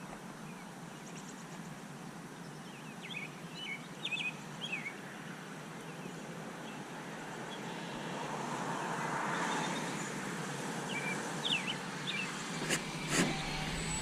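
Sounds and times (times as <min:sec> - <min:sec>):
model plane propeller drone: 0:00.0 - 0:14.0.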